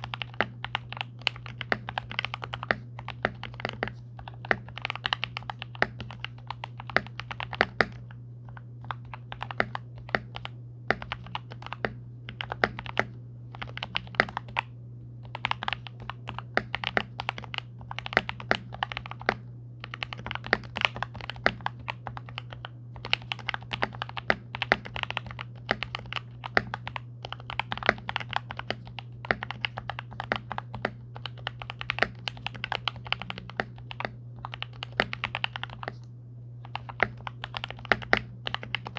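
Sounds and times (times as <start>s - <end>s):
low steady hum: 0.0s - 38.9s
mechanical keyboard typing: 0.0s - 38.9s.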